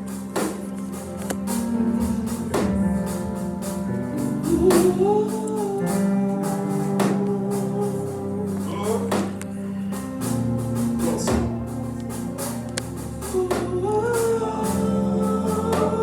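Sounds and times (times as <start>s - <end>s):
percussion hits: 0.0s - 13.8s
gospel worship music chords: 0.0s - 16.0s.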